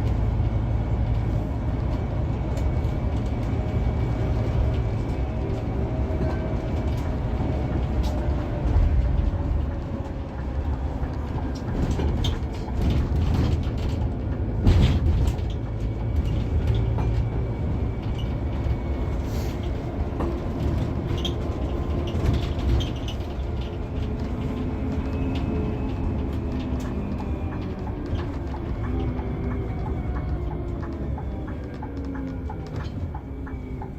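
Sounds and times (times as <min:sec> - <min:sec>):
coach engine and road rumble: 0:00.0 - 0:33.9.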